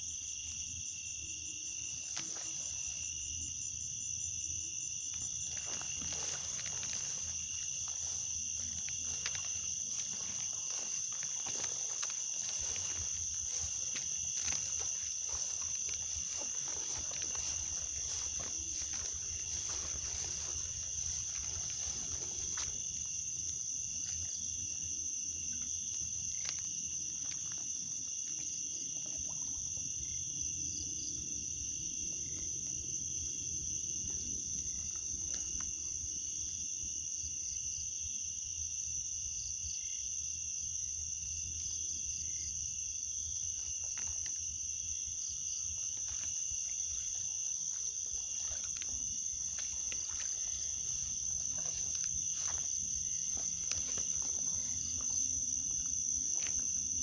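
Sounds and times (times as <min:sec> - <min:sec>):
crickets and insects trilling: 0:00.0 - 0:57.0.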